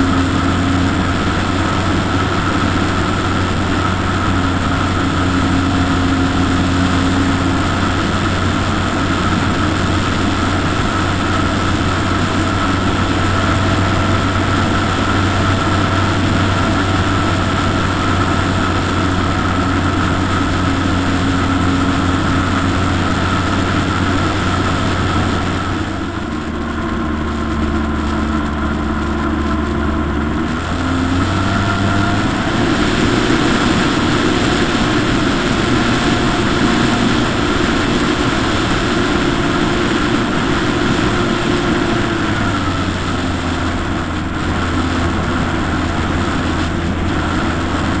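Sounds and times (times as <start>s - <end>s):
model aircraft motor running: 0.0s - 48.0s
wind noise: 0.0s - 48.0s.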